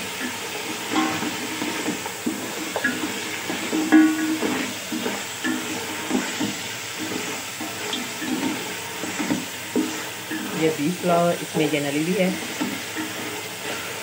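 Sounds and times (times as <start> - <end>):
meat sizzling in a pot: 0.0 - 14.0
wooden spoon stirring: 0.0 - 14.0.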